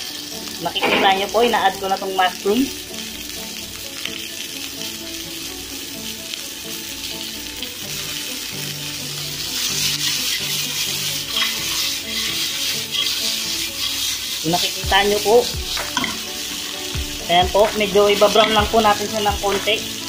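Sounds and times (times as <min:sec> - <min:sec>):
faint background music: 0:00.0 - 0:20.0
vegetables sizzling in a pan: 0:00.0 - 0:20.0.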